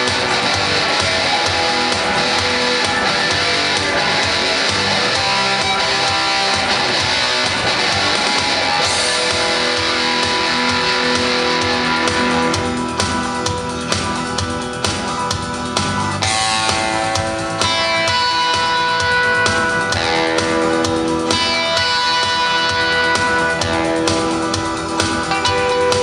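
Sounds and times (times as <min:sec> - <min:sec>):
lead guitar: 0:00.0 - 0:26.0
rock backing track: 0:00.0 - 0:26.0.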